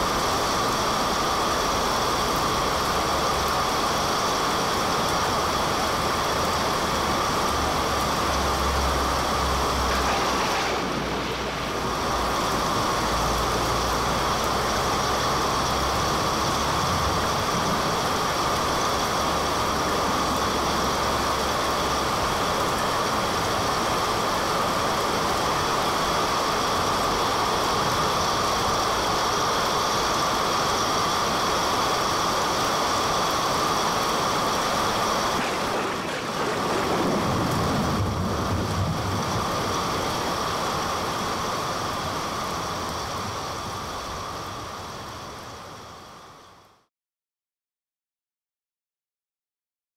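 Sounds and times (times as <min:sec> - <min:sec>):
steady rushing noise: 0:00.0 - 0:46.6.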